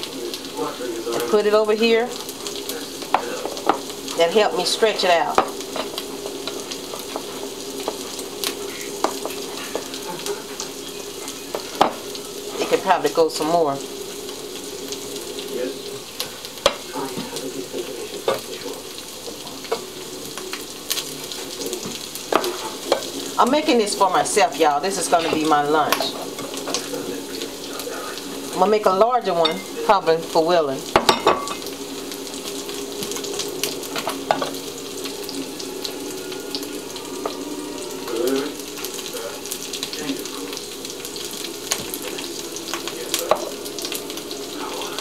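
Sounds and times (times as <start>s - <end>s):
food sizzling in a skillet: 0.0s - 45.0s.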